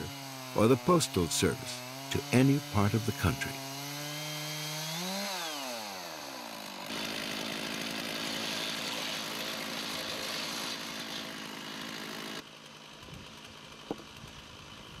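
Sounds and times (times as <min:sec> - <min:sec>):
chainsaw cutting through log: 0:00.0 - 0:15.0.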